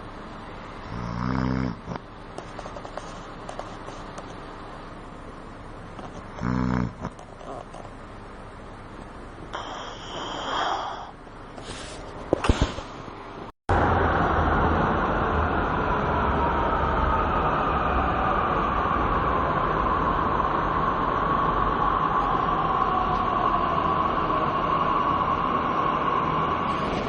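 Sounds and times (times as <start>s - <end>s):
metro train rumble and whine: 0.0s - 1.0s, 1.8s - 6.3s, 7.1s - 27.0s.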